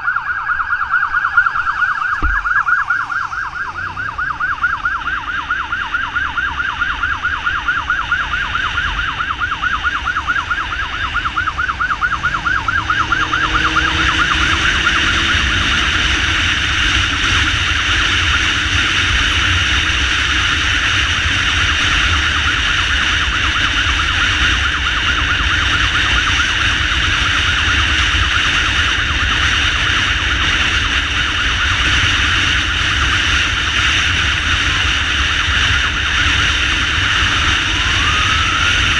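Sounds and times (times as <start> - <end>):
electronic siren yelping and wailing: 0.0 - 38.9
wind rumble: 0.0 - 38.9
motorcycle engine revving: 2.1 - 38.9.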